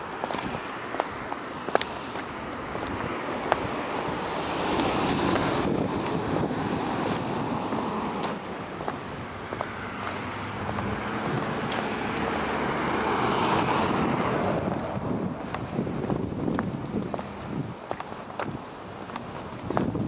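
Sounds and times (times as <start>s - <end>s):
footsteps on concrete: 0.0s - 20.0s
road traffic hum: 0.0s - 20.0s
vehicles passing: 0.0s - 20.0s.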